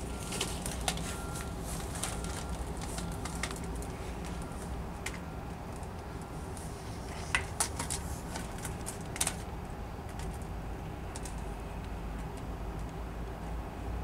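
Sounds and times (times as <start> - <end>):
distant garbage truck rumble: 0.0 - 14.0.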